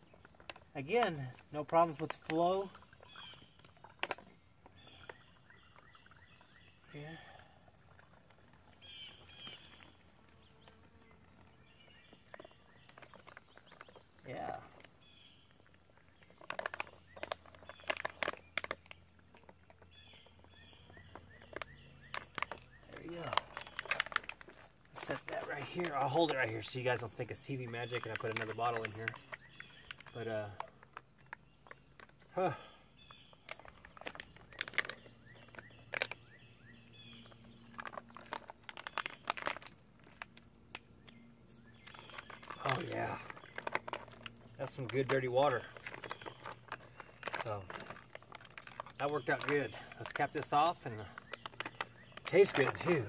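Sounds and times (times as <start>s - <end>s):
plastic water pouch crackling: 0.0s - 53.0s
small birds chirping: 0.0s - 53.0s.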